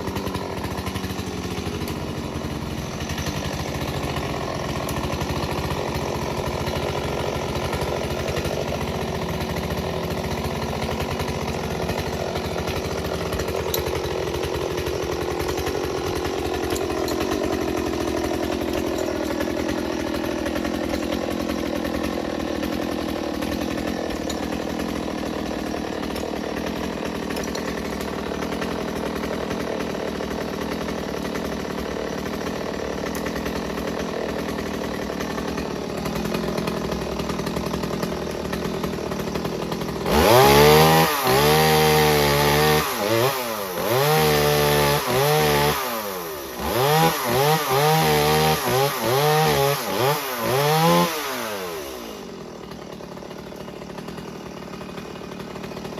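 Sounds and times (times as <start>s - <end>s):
chainsaw idling and revving: 0.0s - 55.9s.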